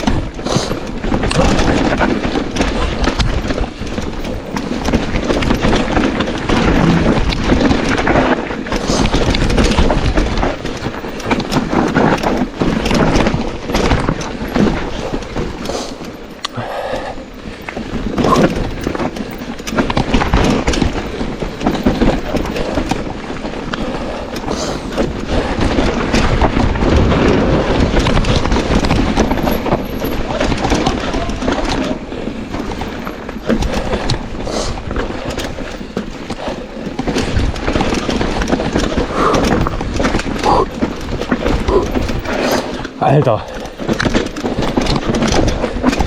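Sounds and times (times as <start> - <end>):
bike knocking and rattling: 0.0 - 46.0
bike tyres rushing on dirt: 0.0 - 46.0.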